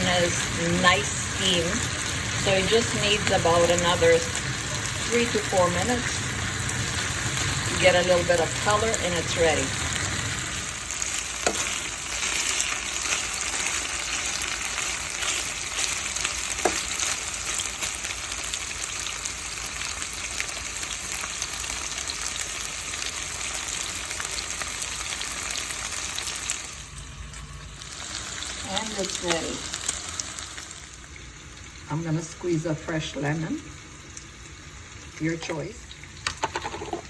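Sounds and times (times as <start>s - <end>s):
chicken sizzling in a pan: 0.0s - 37.0s.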